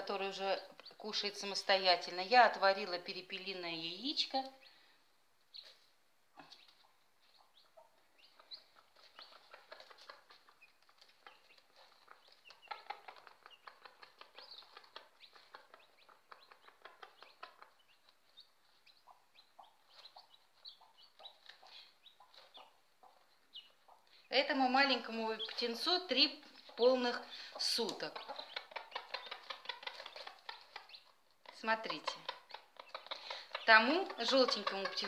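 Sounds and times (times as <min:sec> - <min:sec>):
hen pecking on newspaper: 0:05.5 - 0:35.0.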